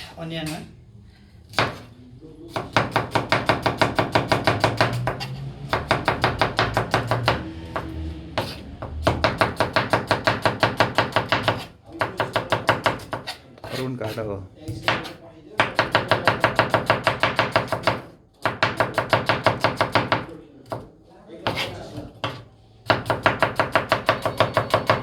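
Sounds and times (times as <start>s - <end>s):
knife chopping on cutting board: 1.5s - 1.9s, 2.5s - 13.8s, 14.7s - 25.0s.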